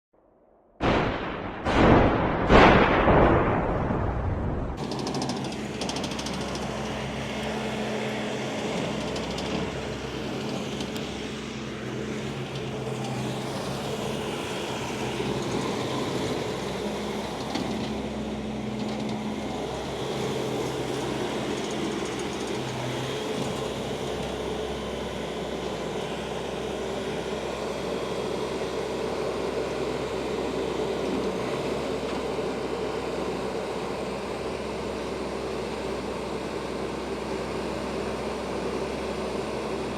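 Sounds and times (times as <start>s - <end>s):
diesel engine running: 0.8s - 39.9s.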